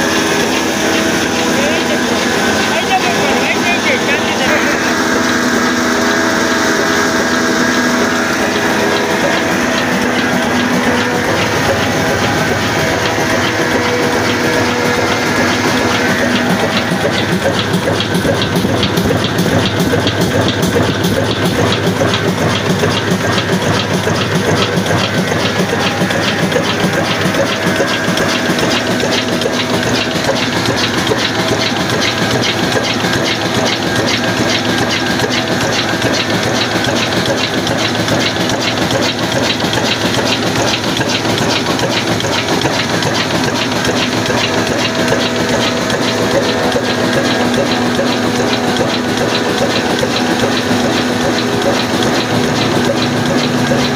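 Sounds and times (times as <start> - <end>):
diesel engine clattering: 0.0 - 53.9.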